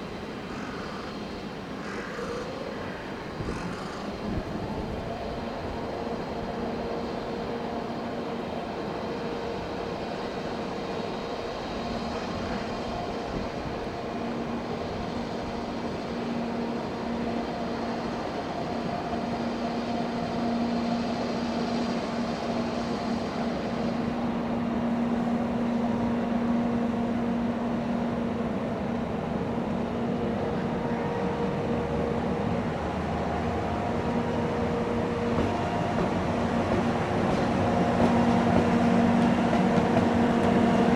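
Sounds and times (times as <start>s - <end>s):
electric train running: 0.0s - 40.9s.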